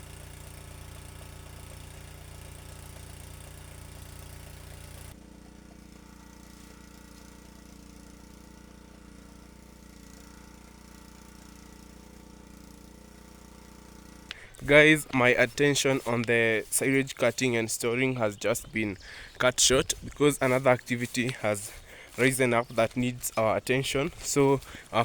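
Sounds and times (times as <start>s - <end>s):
chaff cutter chopping stalks: 0.0s - 25.0s.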